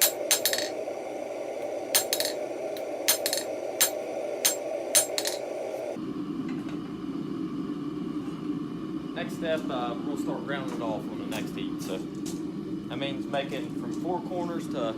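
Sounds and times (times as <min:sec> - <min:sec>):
steady rushing noise: 0:00.0 - 0:14.9.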